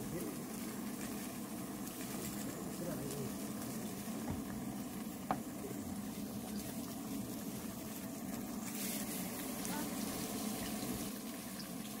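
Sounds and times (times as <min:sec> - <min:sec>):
tofu sizzling in oil: 0:00.0 - 0:12.0.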